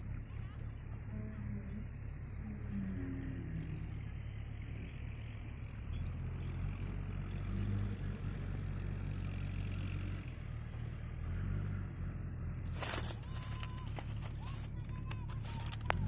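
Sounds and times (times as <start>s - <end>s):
engine running with low rumble: 0.0s - 16.0s.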